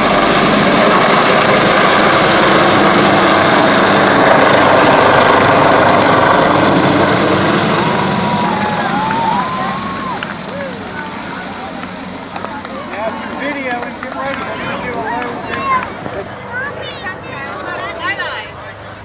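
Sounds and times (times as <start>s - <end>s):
helicopter flying past: 0.0s - 19.0s.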